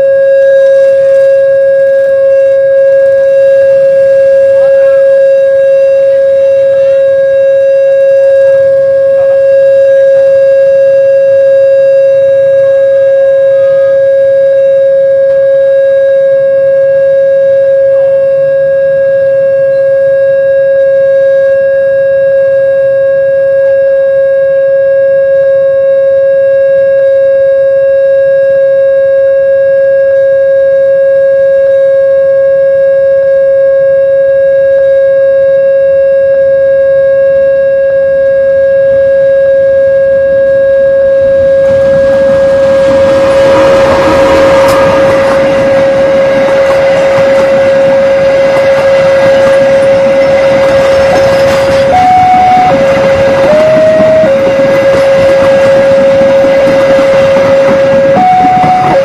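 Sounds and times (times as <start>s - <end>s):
level-crossing alarm steady tone: 0.0s - 59.0s.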